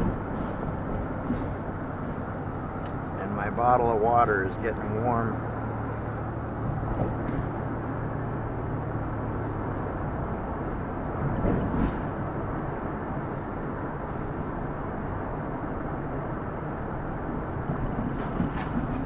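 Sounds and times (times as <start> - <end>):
vehicle bump: 0.0 - 4.2, 5.3 - 14.8, 15.6 - 19.0
engine and road noise in cabin: 0.0 - 19.0.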